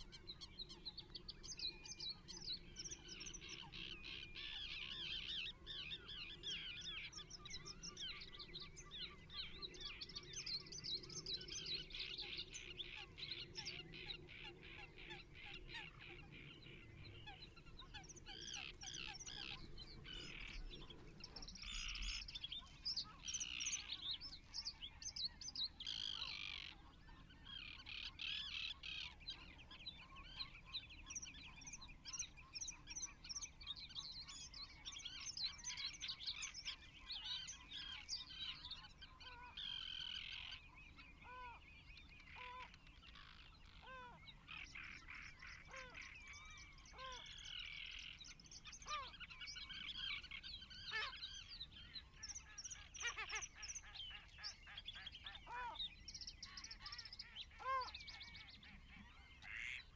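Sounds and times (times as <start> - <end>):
birds chirping and whistling: 0.0 - 26.4, 27.2 - 59.9.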